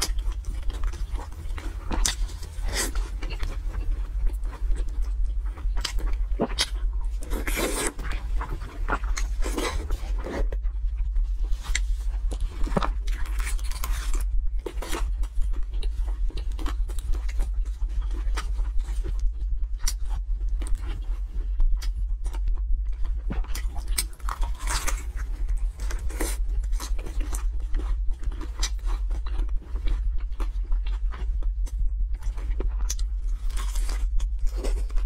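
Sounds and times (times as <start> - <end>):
chewing and wet mouth clicks: 0.0 - 10.6, 11.6 - 21.1, 21.8 - 35.0
steady low hum: 0.0 - 35.0.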